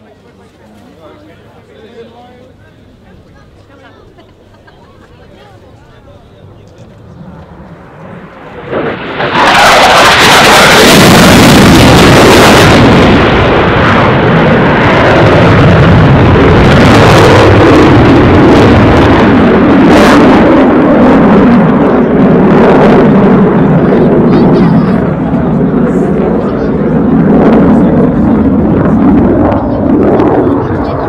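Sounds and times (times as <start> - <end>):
jet fighter roaring past: 6.0 - 31.0.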